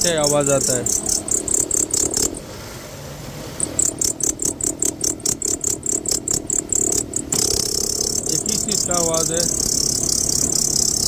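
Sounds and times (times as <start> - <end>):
rhythmic rattling chatter from engine: 0.0 - 11.0.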